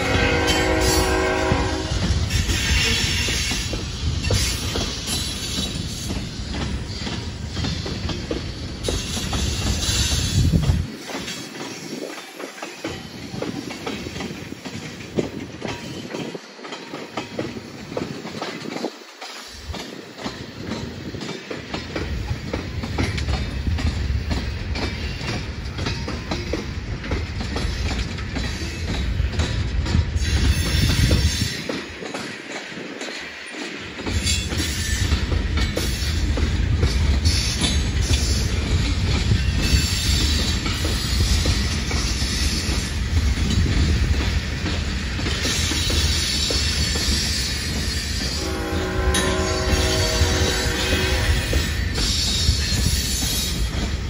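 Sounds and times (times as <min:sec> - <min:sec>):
freight train wheels rumbling: 0:00.0 - 0:54.0
wheels clicking over rail joints: 0:00.3 - 0:54.0.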